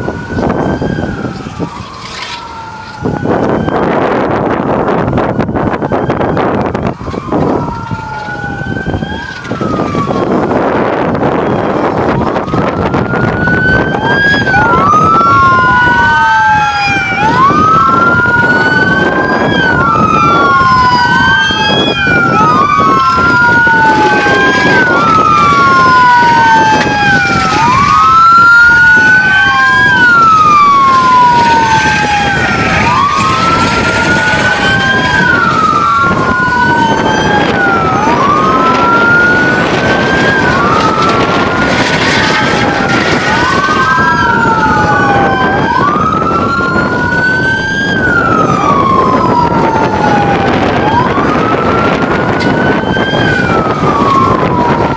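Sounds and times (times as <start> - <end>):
passing vehicles: 0.0 - 54.9
police sirens wailing: 0.0 - 54.9.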